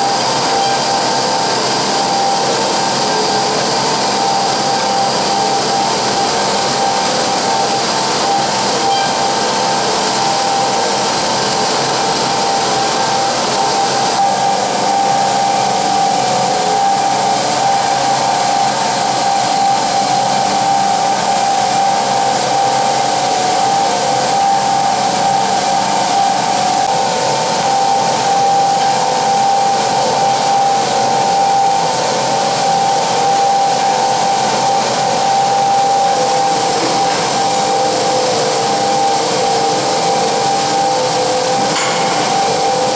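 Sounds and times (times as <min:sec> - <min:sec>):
machine motor whine: 0:00.0 - 0:42.9.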